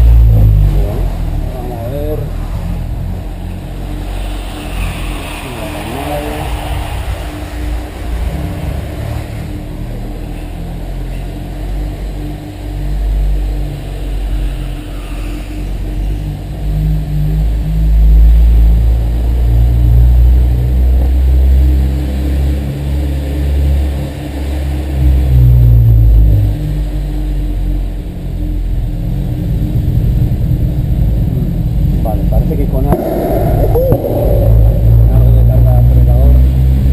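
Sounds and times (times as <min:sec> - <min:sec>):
car engine and exhaust: 0:00.0 - 0:36.9.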